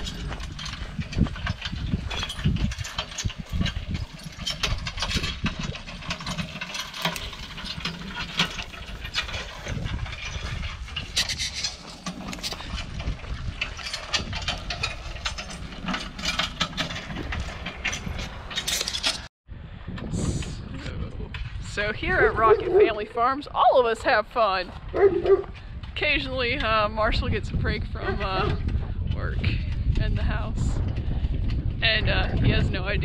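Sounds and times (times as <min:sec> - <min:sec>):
wind rumbling on microphone: 0:00.0 - 0:33.0.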